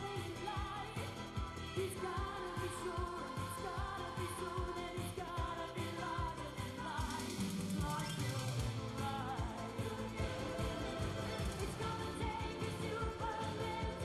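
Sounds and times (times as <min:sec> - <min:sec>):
pop song singing: 0:00.0 - 0:14.0
steady drum beat: 0:00.0 - 0:14.0.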